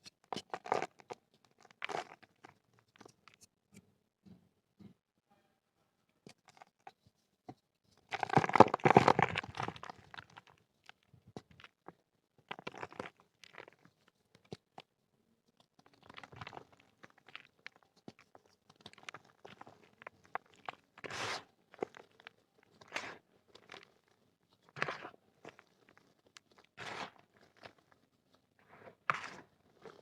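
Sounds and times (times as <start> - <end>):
dry clay crumbling: 0.0 - 3.5, 6.2 - 30.0.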